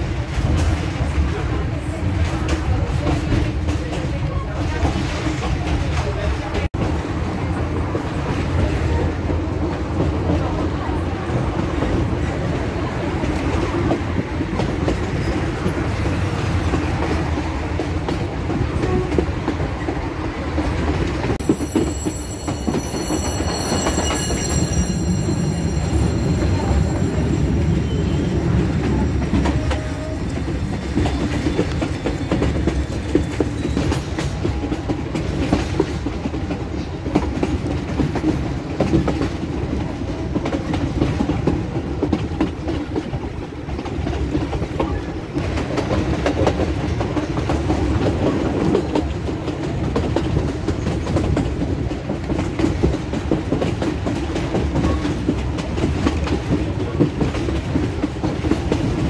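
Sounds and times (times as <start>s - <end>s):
clickety-clack of rail joints: 0.0s - 59.0s
train wheels rumbling on rails: 0.0s - 59.0s.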